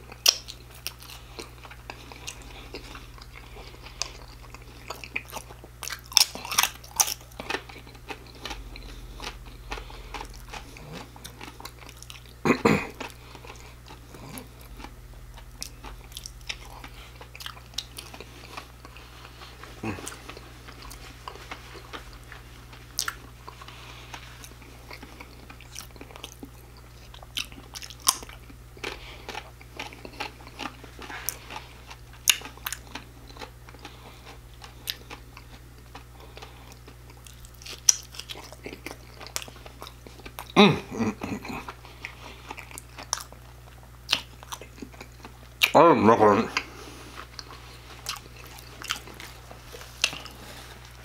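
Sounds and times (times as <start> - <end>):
chewing crispy food: 0.0 - 51.0.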